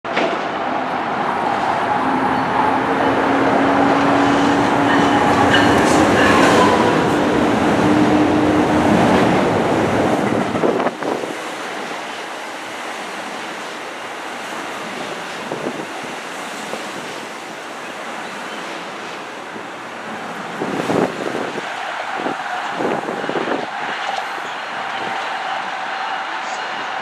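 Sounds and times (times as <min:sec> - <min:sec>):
train rumbling by: 0:00.1 - 0:27.0.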